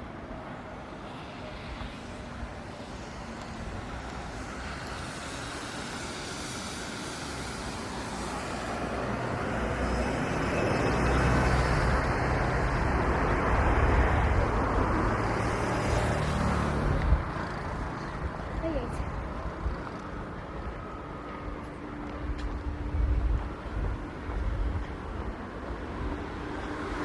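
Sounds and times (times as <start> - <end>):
vehicle passing by: 0.9 - 23.9.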